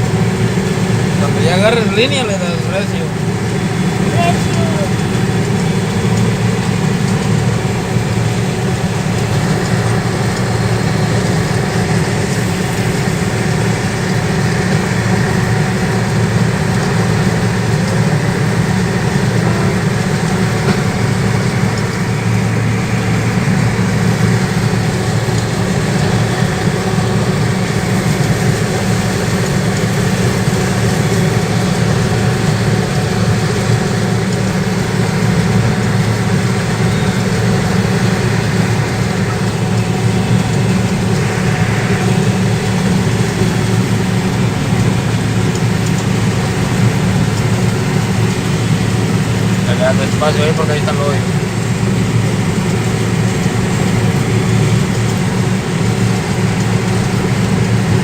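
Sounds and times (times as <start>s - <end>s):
heavy engine droning: 0.0s - 58.0s.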